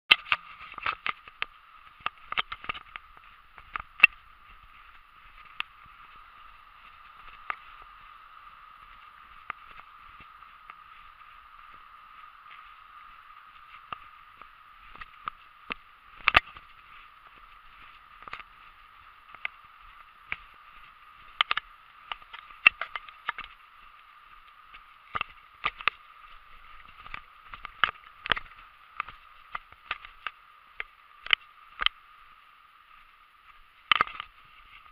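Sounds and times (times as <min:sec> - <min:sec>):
steady thin hiss: 0:00.1 - 0:34.9.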